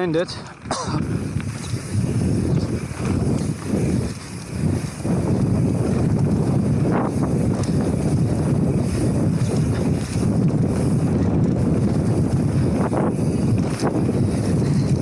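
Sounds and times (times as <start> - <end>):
bike tyres rolling on dirt: 0.0 - 15.0
wind buffeting microphone: 0.0 - 15.0.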